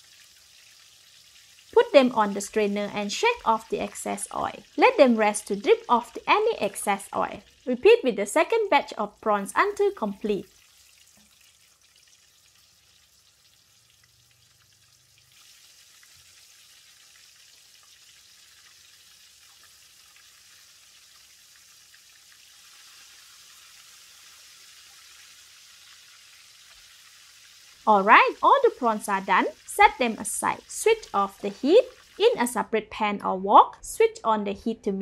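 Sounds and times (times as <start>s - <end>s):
prawns deep-frying in oil: 0.0s - 32.6s.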